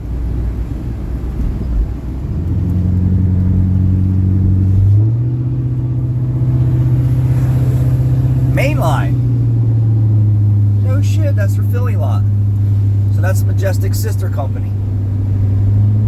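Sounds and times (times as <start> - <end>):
road rumble: 0.0 - 16.0
vehicle engine running: 0.0 - 16.0.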